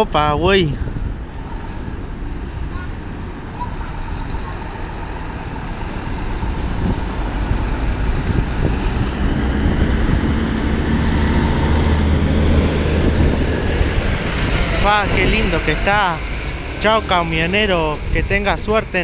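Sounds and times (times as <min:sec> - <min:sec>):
truck diesel engine droning: 0:00.8 - 0:19.0.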